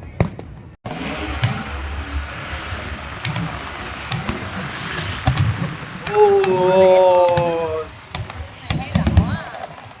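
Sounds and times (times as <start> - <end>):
outdoor hubbub: 0.0 - 10.0
wind rumbling on microphone: 0.0 - 10.0.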